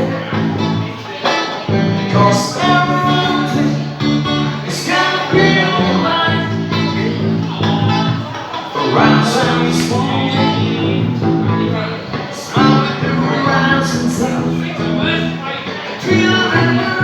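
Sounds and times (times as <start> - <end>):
live band with guitar: 0.0 - 17.0
person singing: 0.0 - 17.0.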